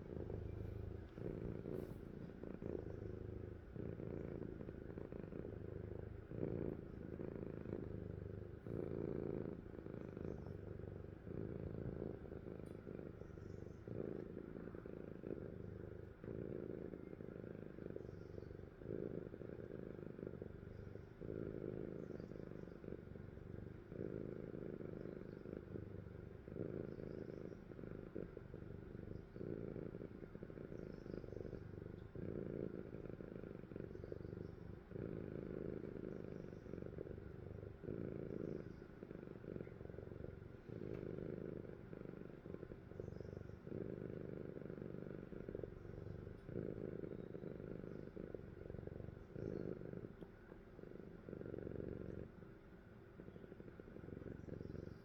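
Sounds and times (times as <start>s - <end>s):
cat snoring: 0.0s - 55.0s.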